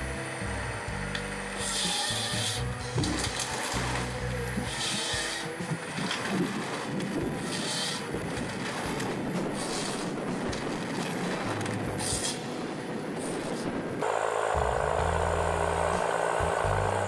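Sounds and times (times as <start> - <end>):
harvester machine noise: 0.0 - 17.0.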